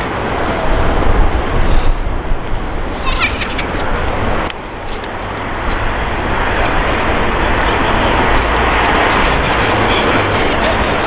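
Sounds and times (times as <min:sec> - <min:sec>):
passing train rumble: 0:00.0 - 0:11.0.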